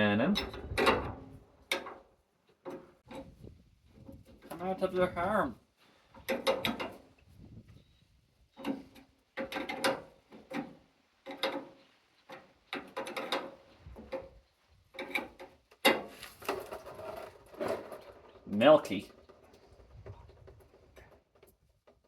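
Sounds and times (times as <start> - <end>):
hand tools clicking and scraping metal: 0.3 - 3.4, 6.0 - 7.3, 8.5 - 22.0.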